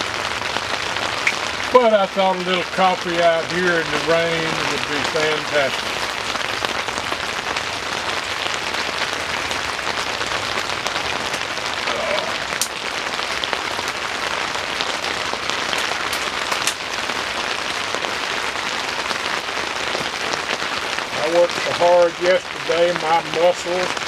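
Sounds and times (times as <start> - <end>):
rain on a tent roof: 0.0 - 24.0.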